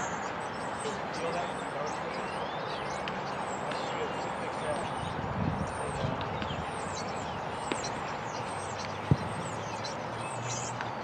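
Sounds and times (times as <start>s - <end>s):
open-air background noise: 0.0s - 11.0s.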